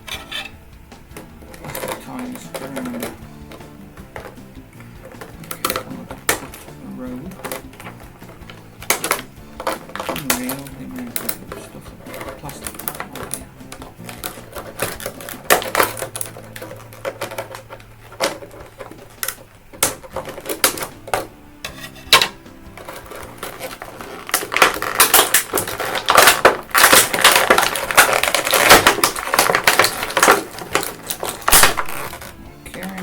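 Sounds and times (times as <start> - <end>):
plastic packaging clicking and crinkling: 1.1 - 21.3, 22.1 - 33.0.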